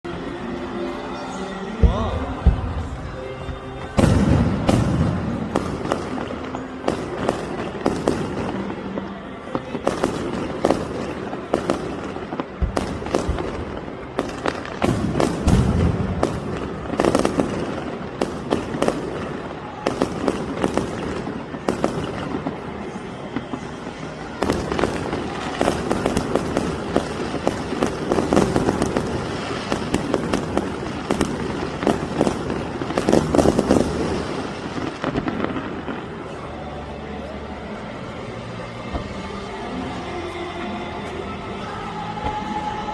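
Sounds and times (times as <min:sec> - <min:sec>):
fireworks crackling bangs: 0:01.7 - 0:36.5
low fireworks booms: 0:01.7 - 0:36.6.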